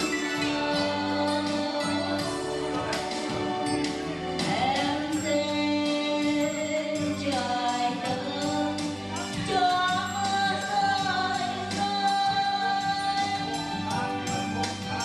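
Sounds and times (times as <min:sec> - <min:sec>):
backing track with steady beat: 0:00.0 - 0:15.0
person singing karaoke: 0:00.0 - 0:15.0.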